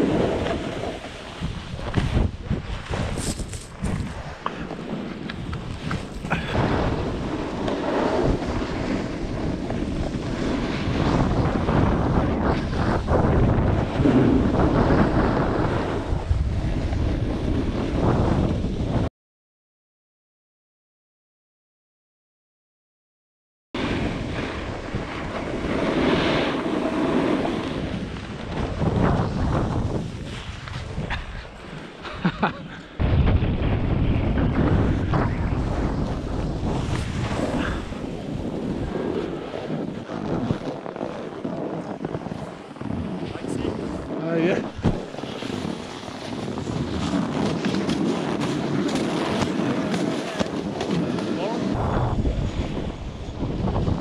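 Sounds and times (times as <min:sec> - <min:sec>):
snowboard scraping over snow: 0:00.0 - 0:19.1, 0:23.8 - 0:54.0
wind on camera microphone: 0:00.0 - 0:19.1, 0:23.8 - 0:54.0.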